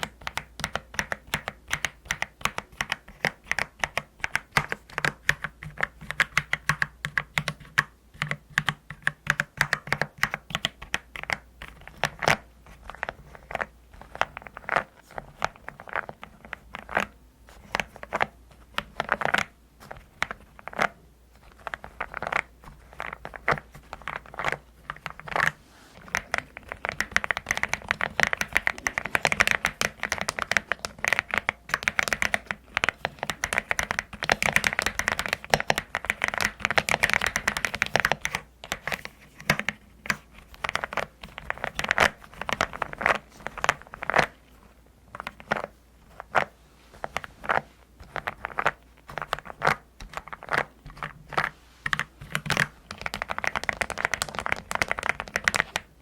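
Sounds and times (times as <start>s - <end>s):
mechanical keyboard typing: 0.0s - 44.4s, 48.1s - 55.9s.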